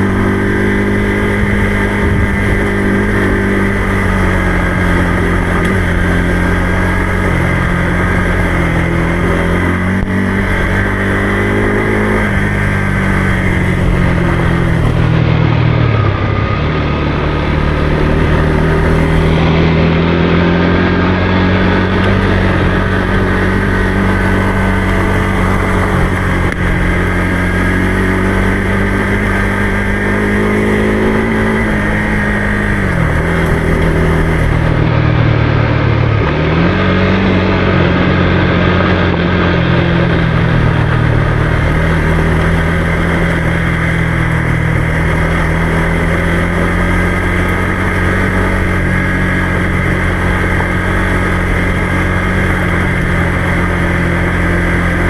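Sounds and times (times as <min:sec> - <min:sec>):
motorcycle engine running: 0:00.0 - 0:55.0
rushing noise: 0:00.0 - 0:55.0.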